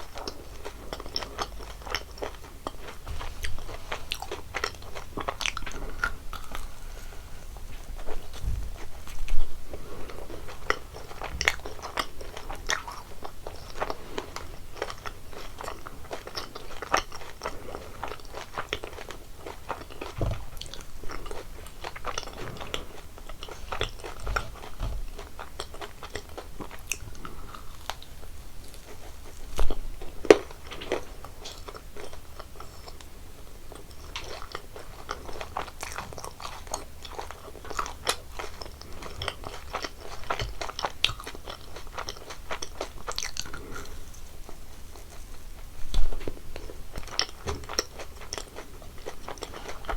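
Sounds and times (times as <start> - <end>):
chewing and biting candies: 0.0 - 49.9.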